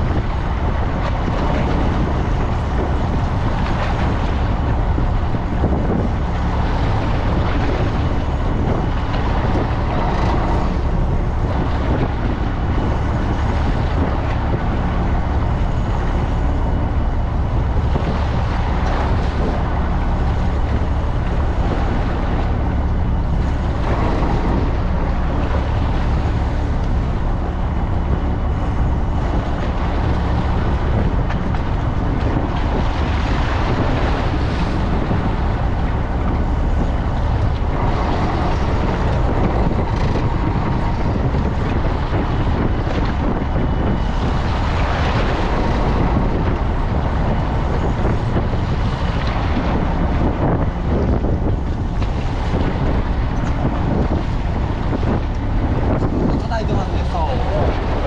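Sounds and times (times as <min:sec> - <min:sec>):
boat engine running: 0:00.0 - 0:58.0
wind and water rushing: 0:00.0 - 0:58.0.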